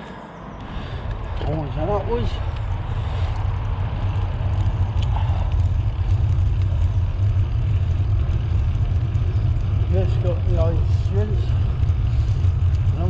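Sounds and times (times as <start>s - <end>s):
bicycle tyre noise: 0.0s - 13.0s
wind buffeting microphone: 0.5s - 13.0s.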